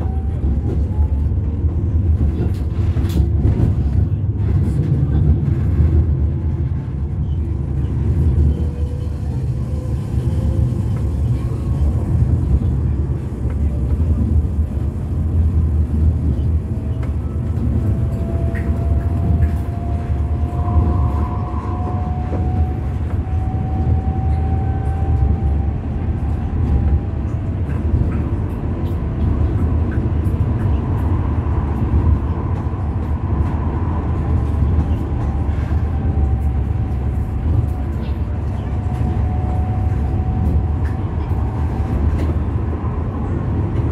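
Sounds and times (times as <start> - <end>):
tram rumbling on rails: 0.0 - 43.9.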